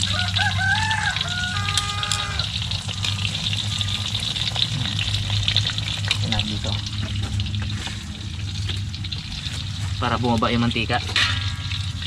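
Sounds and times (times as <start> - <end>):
prawns deep-frying in oil: 0.0 - 12.0.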